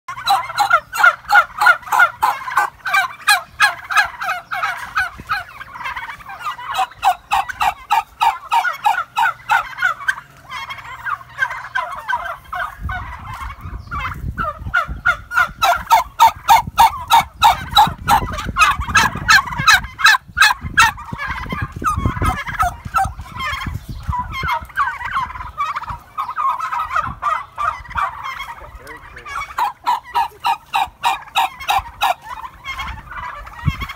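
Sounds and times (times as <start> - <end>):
turkeys gobbling: 0.1 - 33.9.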